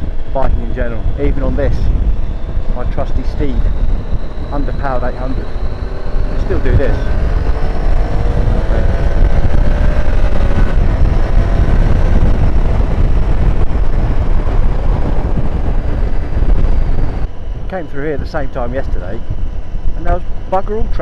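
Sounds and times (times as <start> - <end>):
motorcycle engine accelerating: 0.0 - 21.0
wind rumble on microphone: 0.0 - 21.0.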